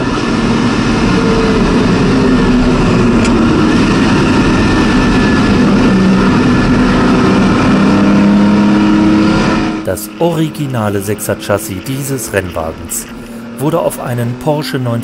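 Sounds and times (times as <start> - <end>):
car engine running from inside: 0.0 - 15.0.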